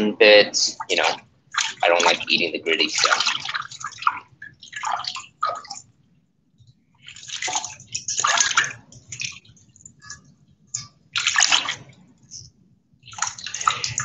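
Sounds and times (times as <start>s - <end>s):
water splashing in a sink: 0.7s - 6.0s, 6.6s - 14.0s.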